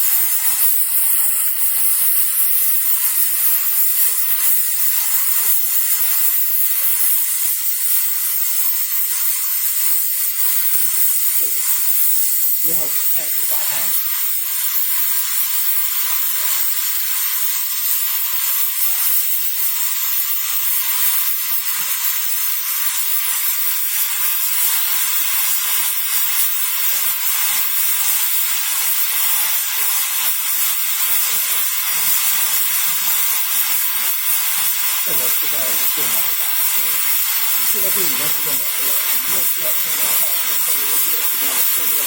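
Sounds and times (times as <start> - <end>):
cutting torch flame hissing: 0.0 - 42.0.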